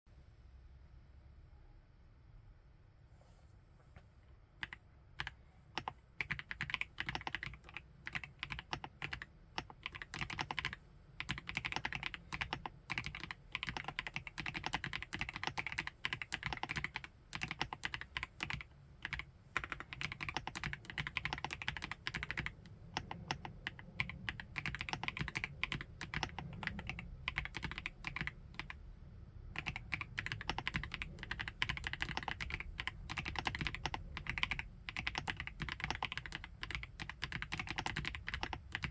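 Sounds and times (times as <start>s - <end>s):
mechanical keyboard typing: 4.6s - 28.8s, 29.6s - 38.9s.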